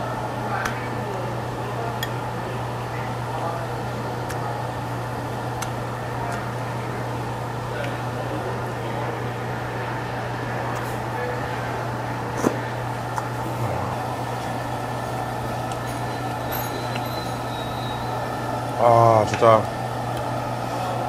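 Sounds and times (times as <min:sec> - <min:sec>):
fan-like machine hum: 0:00.0 - 0:21.0.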